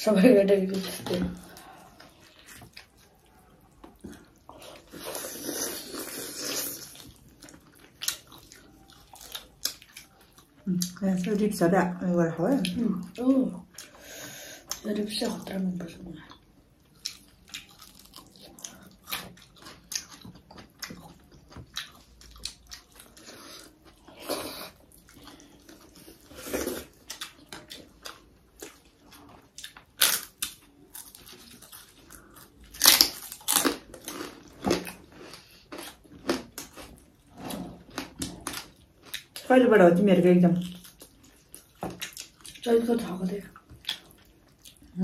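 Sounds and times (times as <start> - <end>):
people chewing food: 0.7 - 45.0.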